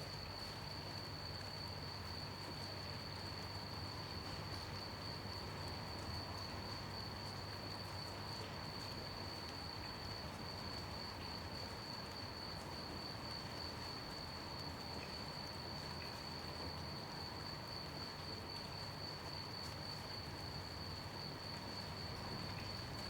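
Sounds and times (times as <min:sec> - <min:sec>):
gentle rain hiss: 0:00.0 - 0:23.0.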